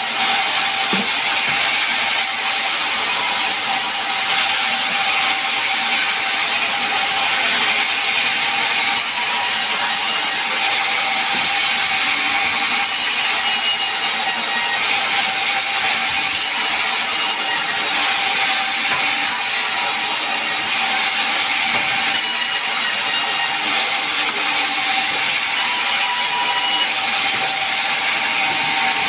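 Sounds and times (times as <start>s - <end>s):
sawmill machinery running: 0.0s - 29.0s.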